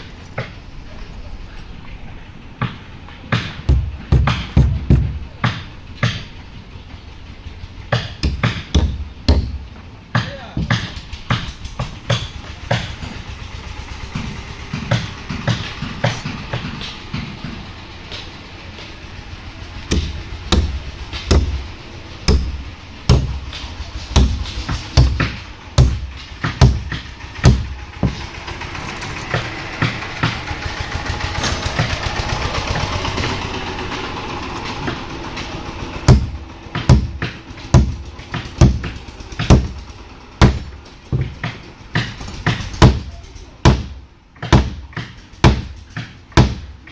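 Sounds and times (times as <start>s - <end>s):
steady noise: 0.0s - 46.8s.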